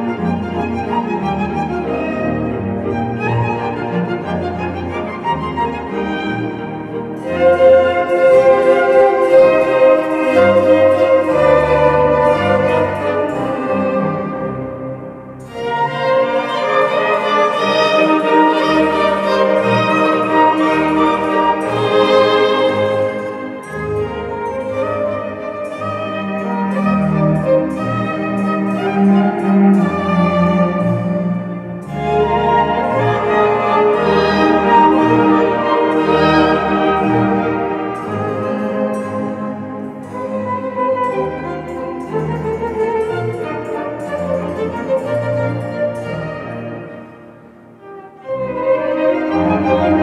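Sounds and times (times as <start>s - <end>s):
orchestra playing a waltz: 0.0s - 50.0s.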